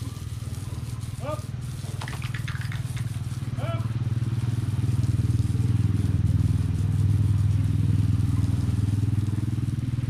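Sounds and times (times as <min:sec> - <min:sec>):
small engine humming: 0:00.0 - 0:10.0.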